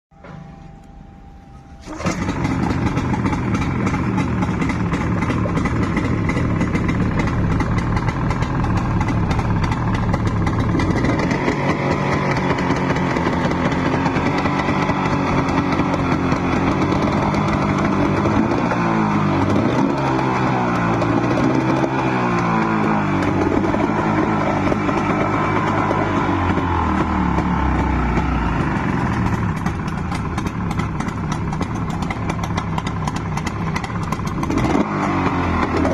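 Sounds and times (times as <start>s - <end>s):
engine revving: 1.8s - 35.9s.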